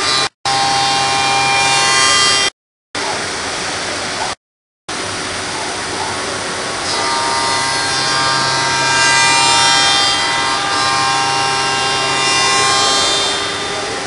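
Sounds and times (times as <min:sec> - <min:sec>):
spindle routing wood whine: 0:00.0 - 0:03.3, 0:05.2 - 0:14.0.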